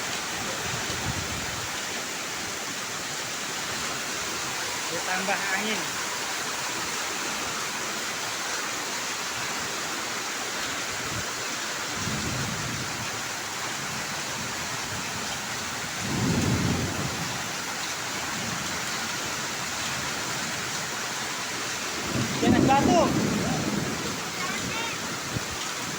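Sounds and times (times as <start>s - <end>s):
heavy hail and rain: 0.0s - 25.9s.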